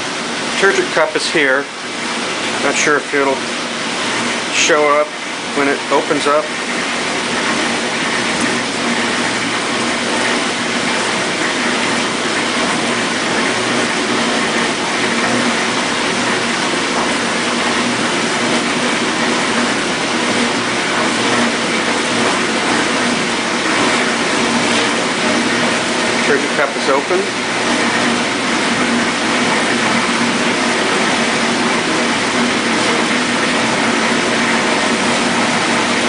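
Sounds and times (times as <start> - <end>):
dishwasher motor hum: 0.0 - 36.0
water spraying inside dishwasher: 0.0 - 36.0.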